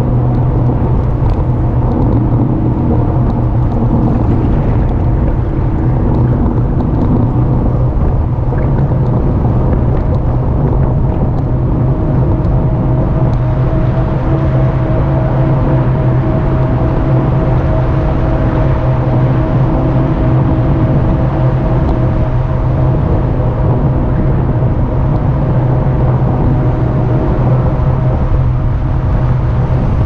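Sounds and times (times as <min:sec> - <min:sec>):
electric motor hum: 0:00.0 - 0:30.0
higher hum tone: 0:00.0 - 0:30.0
road rumble: 0:00.0 - 0:30.0
wind: 0:00.0 - 0:30.0.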